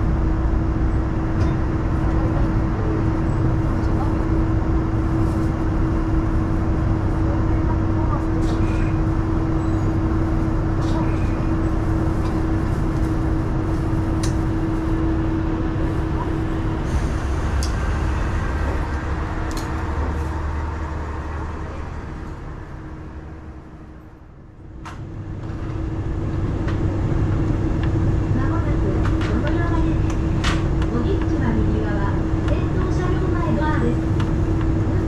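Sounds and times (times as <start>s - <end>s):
diesel railcar engine hum: 0.0s - 35.0s.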